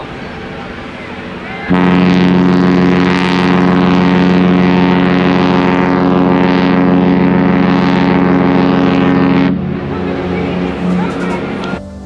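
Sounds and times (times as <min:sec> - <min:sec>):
ship horn blast: 0:00.0 - 0:12.0.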